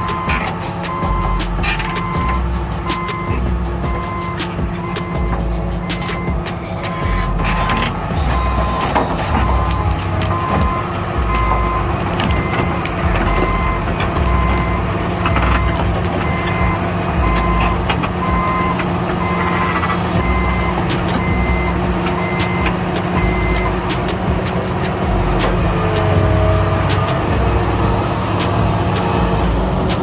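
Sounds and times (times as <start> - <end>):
backup alarm beeping: 0.0 - 24.4
diesel engine running: 0.0 - 30.0.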